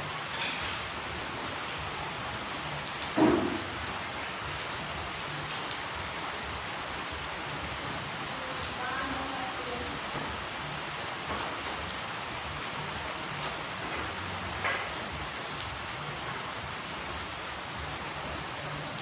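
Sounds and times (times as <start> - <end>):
rain falling on road: 0.0 - 19.0.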